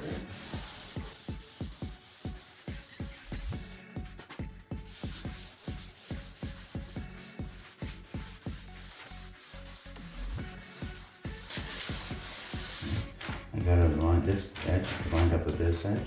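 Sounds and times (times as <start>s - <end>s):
background music with steady beat: 0.0s - 16.0s
sandpaper rubbing on wood: 0.0s - 16.0s.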